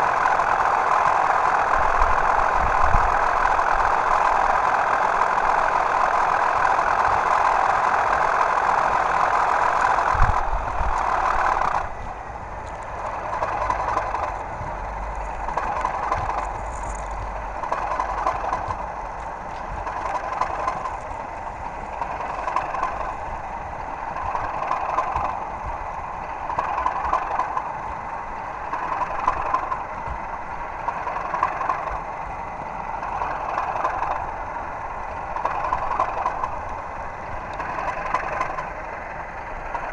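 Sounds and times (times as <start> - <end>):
simulated diesel engine: 0.0 - 39.9.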